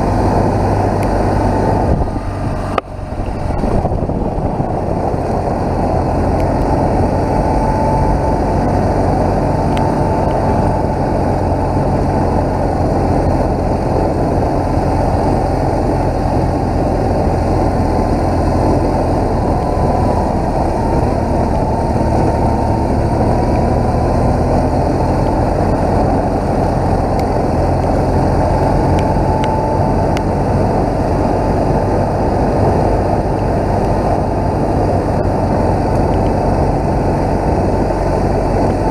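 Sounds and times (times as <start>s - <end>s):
motorcycle engine running: 0.0s - 38.9s
road noise: 0.0s - 38.9s
wind noise: 0.0s - 38.9s.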